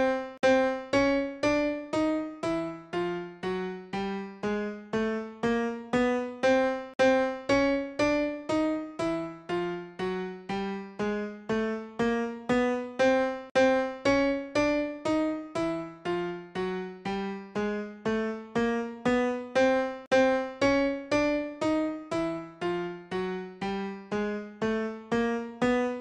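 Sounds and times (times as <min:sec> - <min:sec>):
piano notes rising endlessly: 0:00.0 - 0:26.0.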